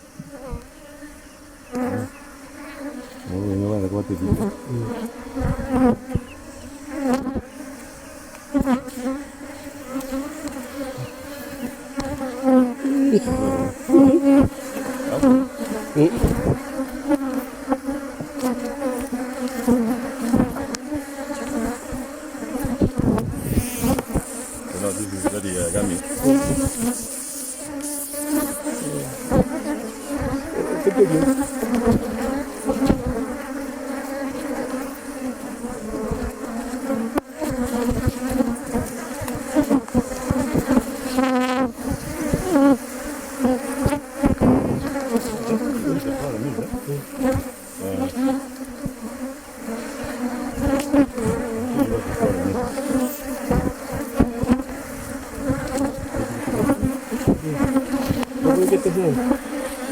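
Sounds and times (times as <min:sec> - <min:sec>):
honeybees buzzing: 0:00.0 - 0:59.9
hive frames knocking and scraping: 0:04.1 - 0:59.9.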